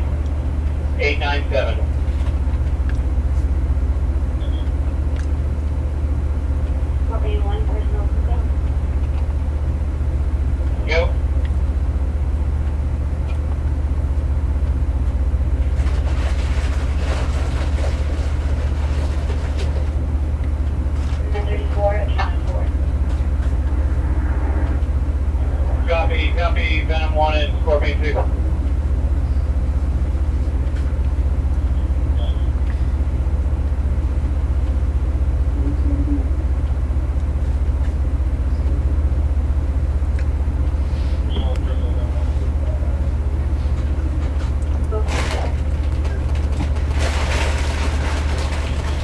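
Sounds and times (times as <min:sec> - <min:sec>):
low droning hum: 0:00.0 - 0:49.0.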